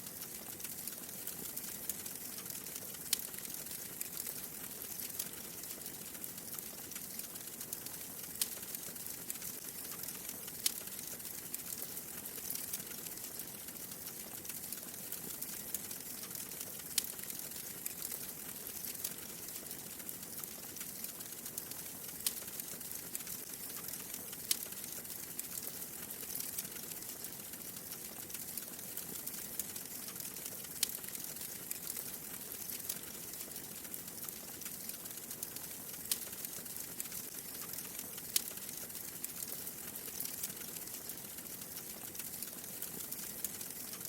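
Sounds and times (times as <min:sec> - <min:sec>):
wood fire crackling: 0:00.0 - 0:44.0
burning logs popping: 0:00.2 - 0:14.4, 0:15.2 - 0:44.0.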